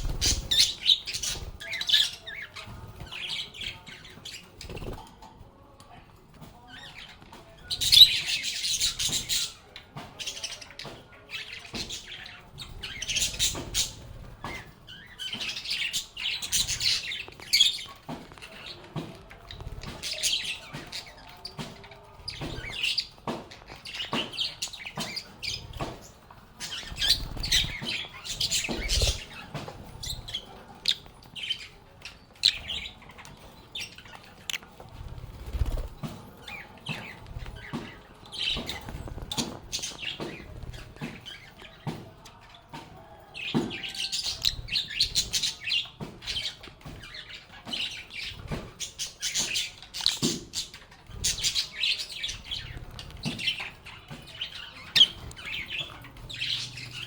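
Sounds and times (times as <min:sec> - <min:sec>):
lovebirds chirping and squawking: 0:00.0 - 0:05.3, 0:06.2 - 0:57.0.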